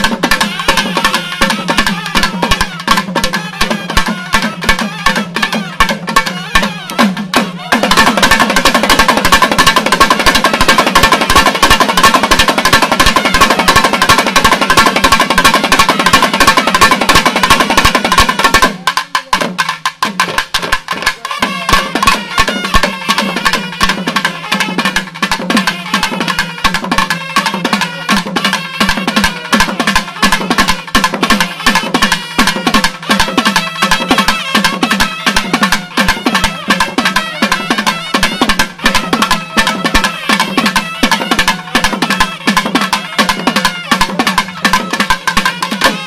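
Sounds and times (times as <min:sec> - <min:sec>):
nadaswaram high notes: 0:00.0 - 0:46.0
thavil drumming: 0:00.0 - 0:46.0.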